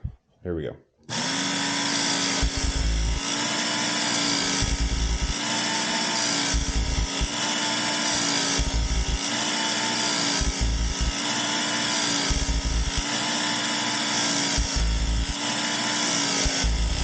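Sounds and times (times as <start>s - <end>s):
belt sharpener motor hum: 1.1s - 17.0s
blade grinding on belt: 1.1s - 17.0s.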